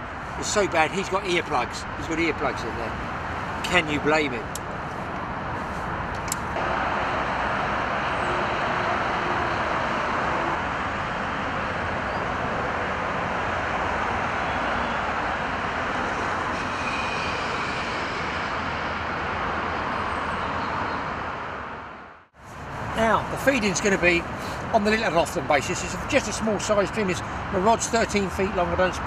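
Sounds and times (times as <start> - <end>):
road traffic drone: 0.0 - 29.0.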